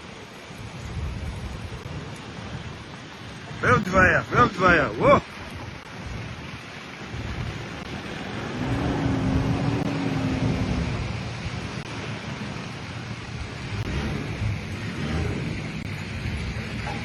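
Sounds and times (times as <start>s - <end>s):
grass fire crackling: 0.0s - 17.0s
wind buffeting microphone: 0.0s - 17.0s.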